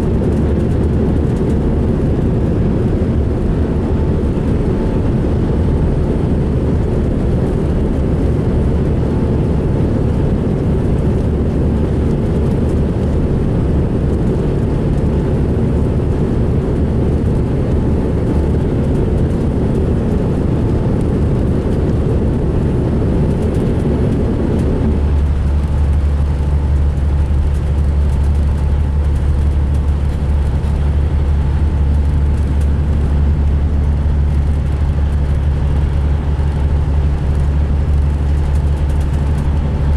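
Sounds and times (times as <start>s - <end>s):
diesel engine running: 0.0s - 39.9s
road noise: 0.0s - 39.9s.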